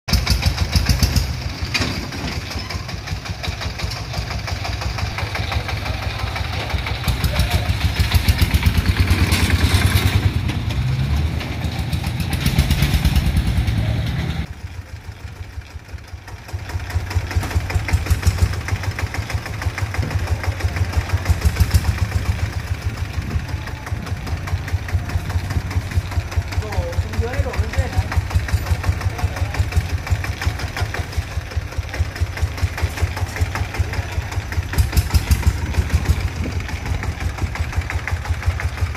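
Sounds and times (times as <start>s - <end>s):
diesel engine chugging: 0.1s - 38.9s.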